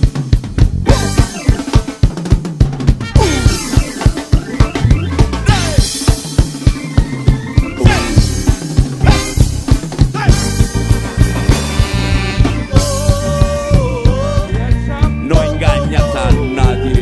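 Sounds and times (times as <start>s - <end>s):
ska band playing: 0.0s - 17.0s.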